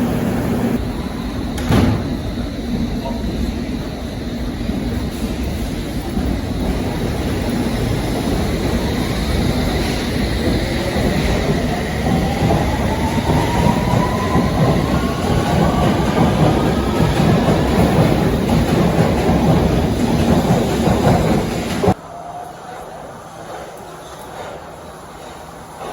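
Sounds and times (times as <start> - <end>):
rail rumble and clatter: 0.0 - 22.0.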